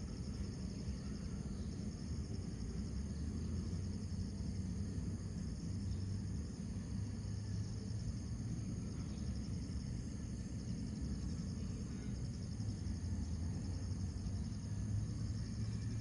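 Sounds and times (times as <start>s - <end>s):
insects trilling: 0.0s - 16.0s
low steady rumble: 0.0s - 16.0s.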